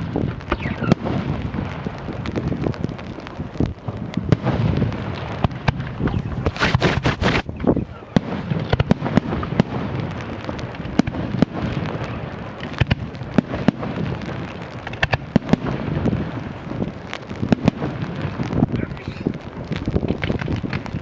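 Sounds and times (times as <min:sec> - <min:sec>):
fireworks bangs: 0:00.0 - 0:21.0
fireworks crackling and rumble: 0:00.0 - 0:21.0.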